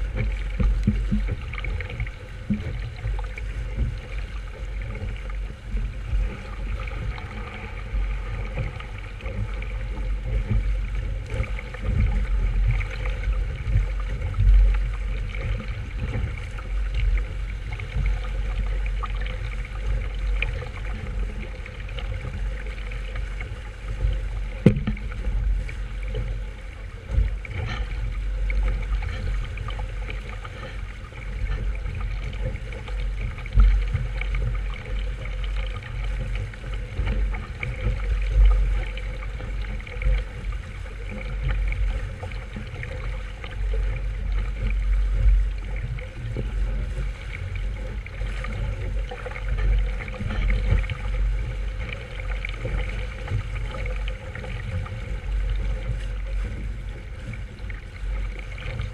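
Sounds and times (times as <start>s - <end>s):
water rushing along hull: 0.0s - 58.9s
wind rumble on microphone: 0.0s - 58.9s.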